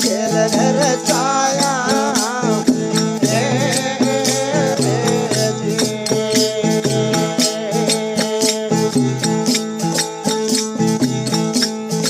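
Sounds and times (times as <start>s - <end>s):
held chords: 0.0s - 12.0s
quick percussion beat: 0.0s - 12.0s.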